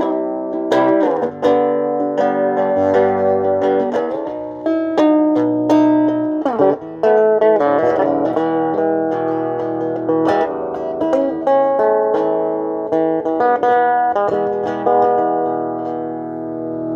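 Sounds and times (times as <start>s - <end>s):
solo guitar: 0.0s - 16.9s.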